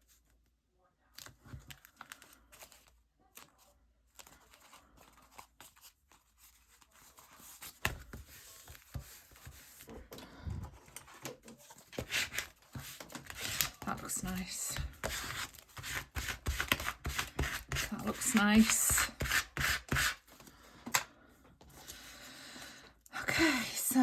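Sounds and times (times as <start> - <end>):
paper rustling and crinkling: 1.1 - 21.0.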